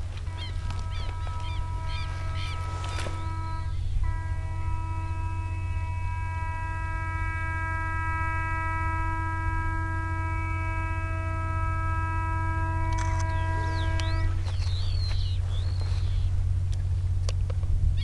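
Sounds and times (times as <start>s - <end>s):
locomotive engine rumble: 0.0s - 18.0s.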